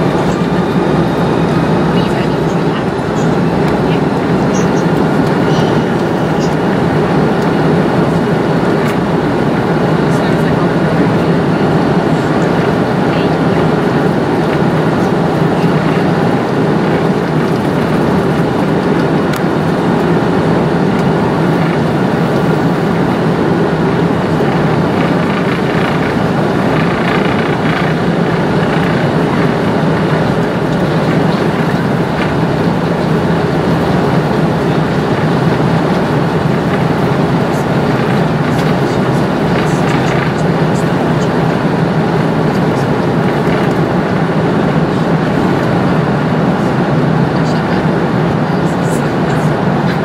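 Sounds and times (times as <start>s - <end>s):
airframe rumbling: 0.0s - 50.0s
jet engines running at low power: 0.0s - 50.0s.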